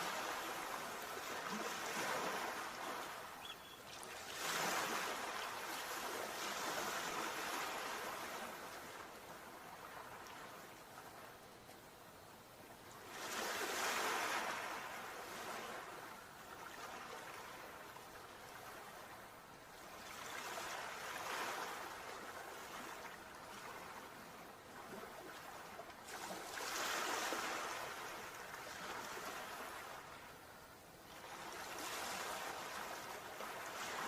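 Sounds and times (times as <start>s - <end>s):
sea waves breaking on shore: 0.0s - 11.4s, 12.8s - 34.0s.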